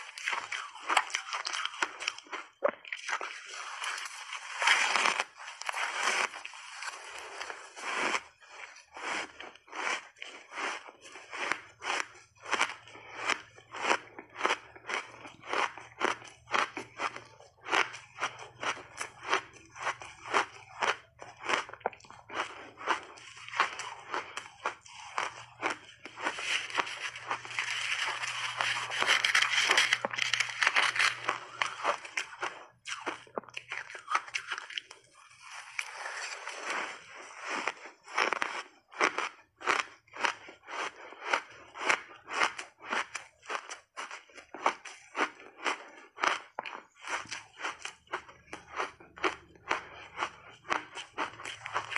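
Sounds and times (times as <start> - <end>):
chewing shaved ice crunches: 0.0 - 51.9.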